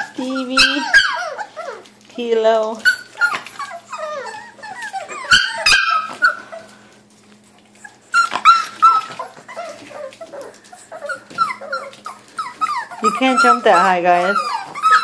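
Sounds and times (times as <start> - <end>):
puppies yipping and whining: 0.0 - 15.0.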